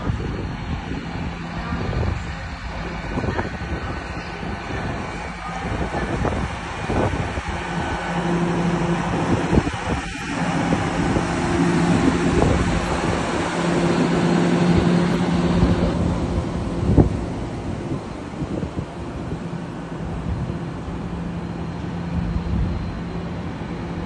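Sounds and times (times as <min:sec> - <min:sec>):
train engine droning: 0:00.0 - 0:24.0
wind on microphone: 0:00.0 - 0:24.0.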